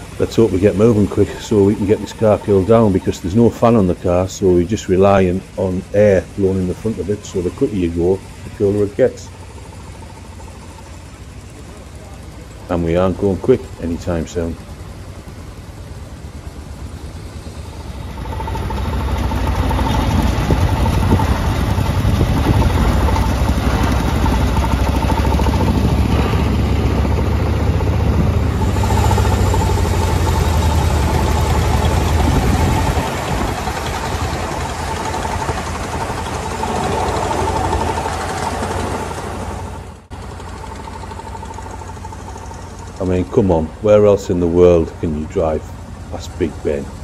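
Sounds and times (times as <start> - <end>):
vehicle engine low rumble: 0.0 - 47.0.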